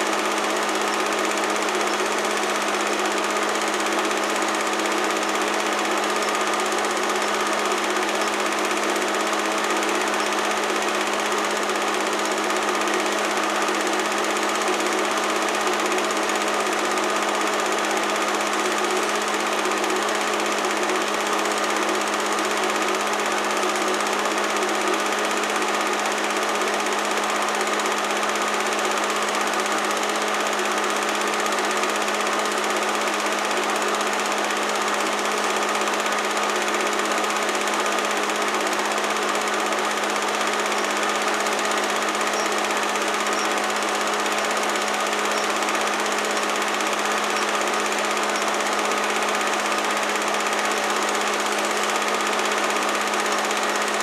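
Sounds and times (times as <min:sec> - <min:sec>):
film projector whirring and clicking: 0:00.0 - 0:54.0.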